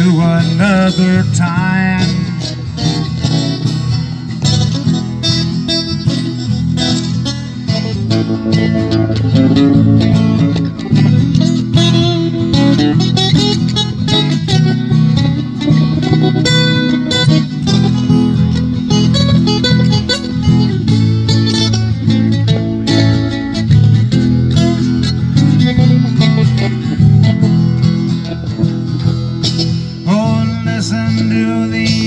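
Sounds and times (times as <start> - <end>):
country band playing: 0.0 - 32.0.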